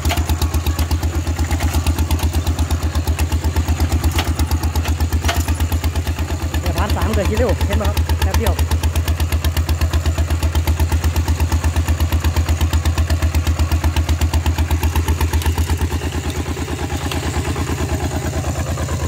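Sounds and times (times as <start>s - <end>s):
diesel tractor engine chugging: 0.0s - 19.0s.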